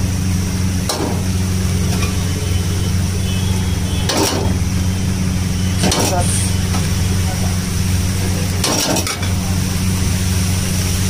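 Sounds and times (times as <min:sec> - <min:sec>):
stove burner hum: 0:00.0 - 0:11.0.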